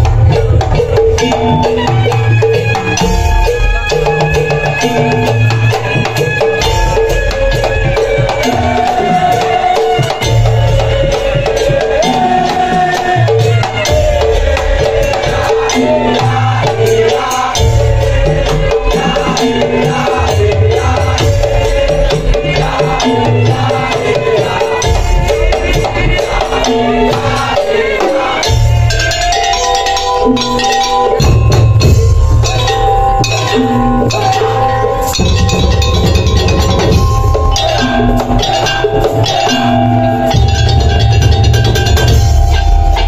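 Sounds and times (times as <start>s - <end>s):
deep drum beats: 0.0s - 43.0s
dense clattering percussion: 0.0s - 43.0s
wavering melody: 0.0s - 43.0s.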